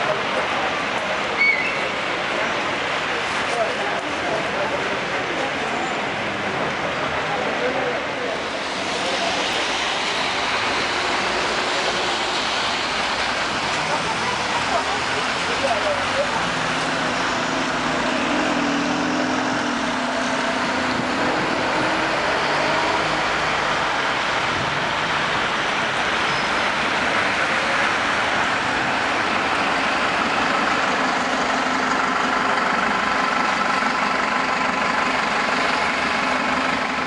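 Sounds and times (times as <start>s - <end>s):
cars and buses humming: 0.0s - 37.0s
tyres hissing on wet road: 0.0s - 37.0s.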